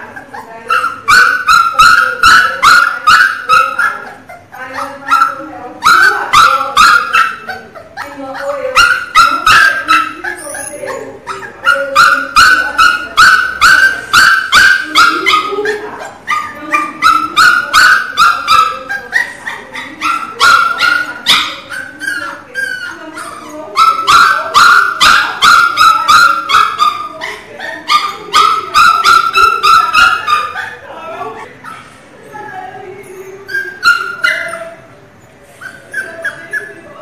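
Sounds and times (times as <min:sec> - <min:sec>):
puppy yelping: 0:00.0 - 0:37.0.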